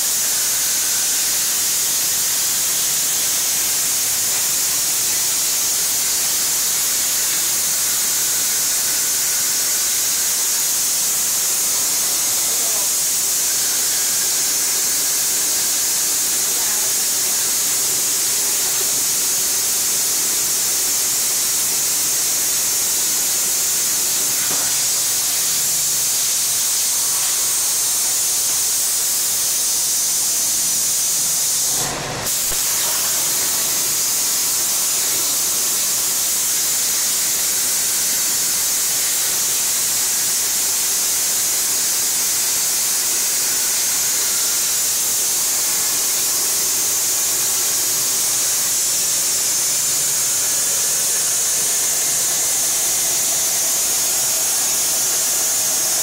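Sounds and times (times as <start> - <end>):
plasma cutter torch hissing: 0.0 - 56.0.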